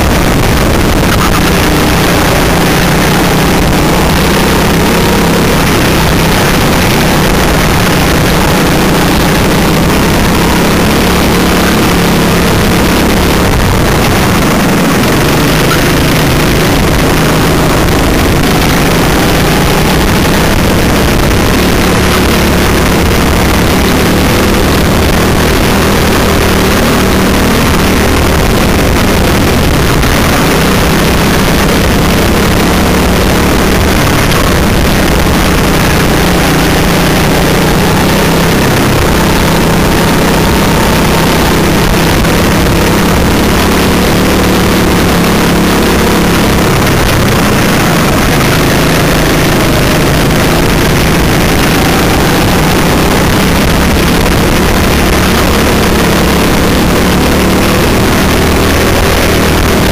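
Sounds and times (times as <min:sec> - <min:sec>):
go-kart engine running hard: 0:00.0 - 0:59.9
wind and tyre hiss: 0:00.0 - 0:59.9.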